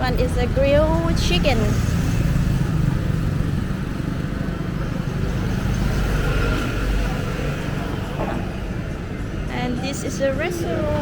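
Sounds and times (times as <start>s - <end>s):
traffic passing: 0.0s - 11.0s.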